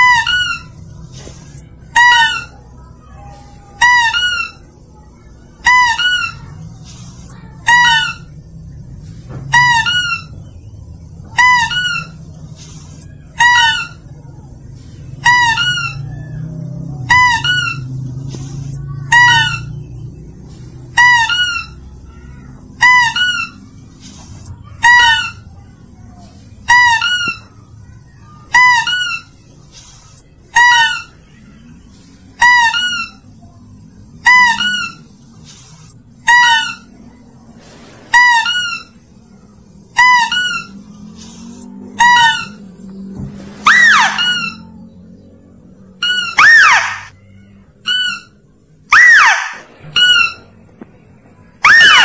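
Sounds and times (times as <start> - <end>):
high squealing lure call: 0.0 - 8.6, 9.5 - 33.4, 34.2 - 37.0, 38.1 - 39.2, 39.9 - 42.9, 43.6 - 44.8, 45.6 - 50.5, 51.6 - 52.0.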